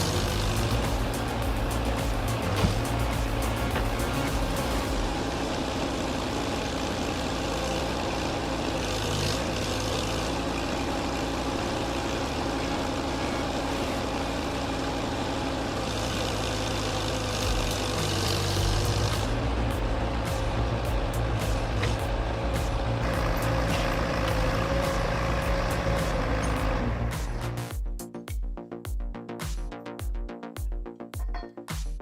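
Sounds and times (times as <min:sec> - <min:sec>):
heavy machinery engine rumbling: 0:00.0 - 0:27.7.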